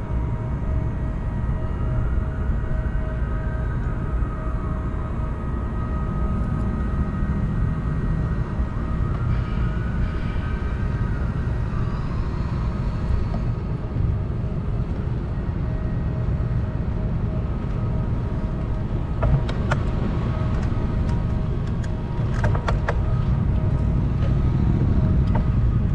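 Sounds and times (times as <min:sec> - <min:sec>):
wind rumbling on microphone: 0:00.0 - 0:25.9.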